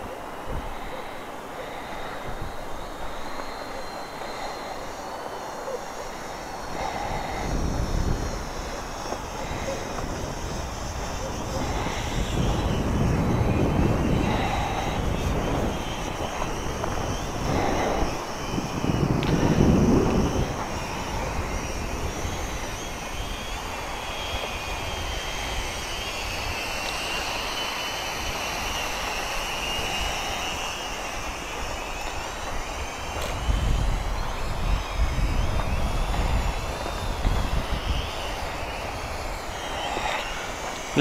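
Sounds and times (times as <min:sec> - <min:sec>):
drone propellers whining: 0:00.0 - 0:41.0
wind buffeting microphone: 0:00.0 - 0:41.0.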